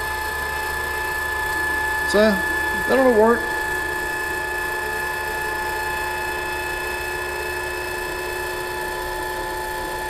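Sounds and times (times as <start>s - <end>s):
small electric motor whining: 0.0s - 10.0s.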